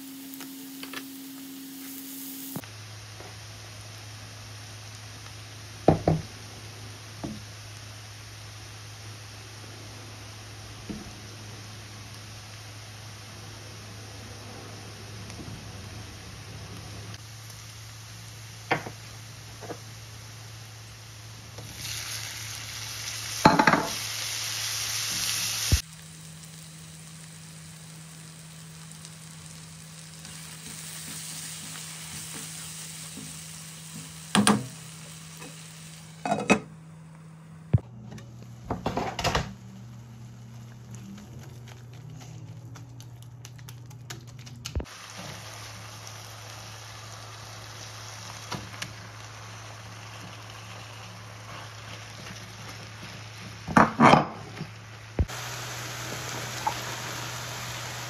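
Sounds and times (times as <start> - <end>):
masala frying in a pan: 0.0 - 58.0.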